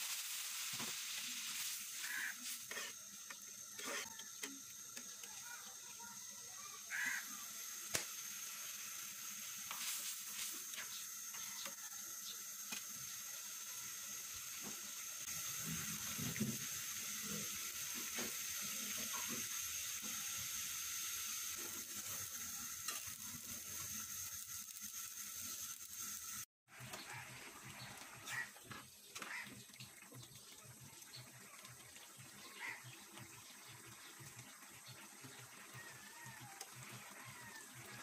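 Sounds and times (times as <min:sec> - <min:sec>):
curry sizzling in a wok: 0:00.0 - 0:38.0.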